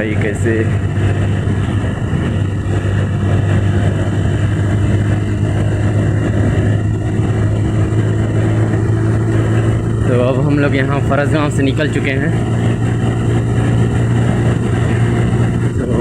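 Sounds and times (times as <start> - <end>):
motorcycle engine humming: 0.0 - 16.0
road and wind noise: 0.0 - 16.0.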